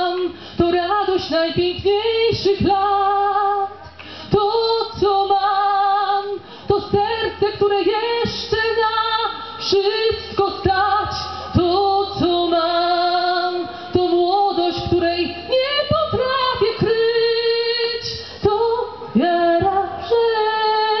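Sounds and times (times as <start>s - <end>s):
woman singing a cappella: 0.0s - 21.0s.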